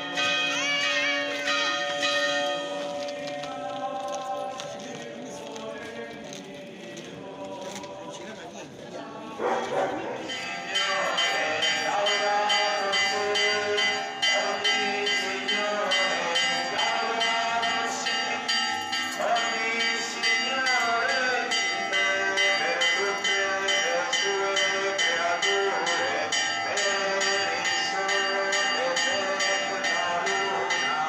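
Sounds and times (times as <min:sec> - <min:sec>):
church bells pealing: 0:00.0 - 0:04.0, 0:09.6 - 0:31.0
crowd voices: 0:00.0 - 0:31.0.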